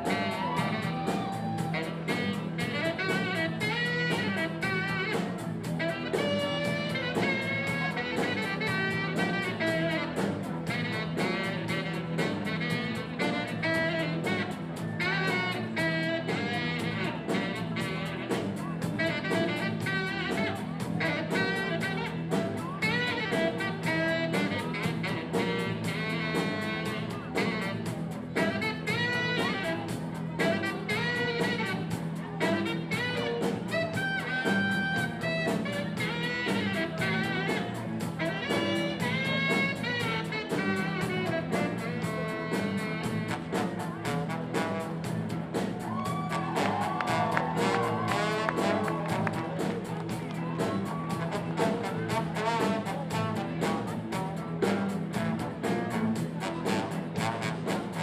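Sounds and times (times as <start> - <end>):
blues band with horns: 0.0 - 58.0.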